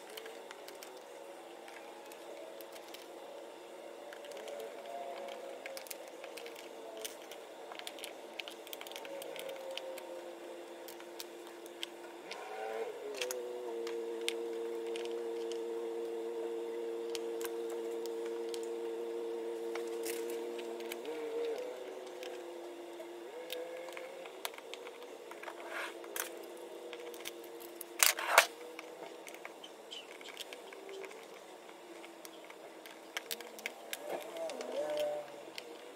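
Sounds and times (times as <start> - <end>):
motor hum: 0.0 - 35.9.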